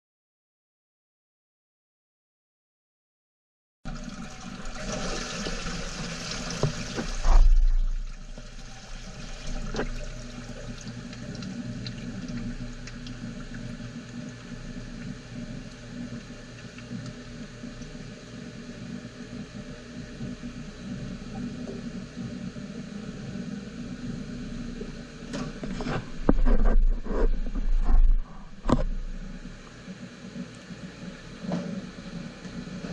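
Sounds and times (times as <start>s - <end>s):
low machine hum: 3.9s - 32.9s.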